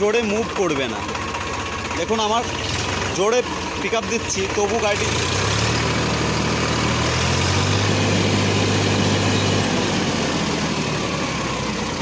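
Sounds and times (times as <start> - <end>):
tractor engine revving hard: 0.1 - 12.0.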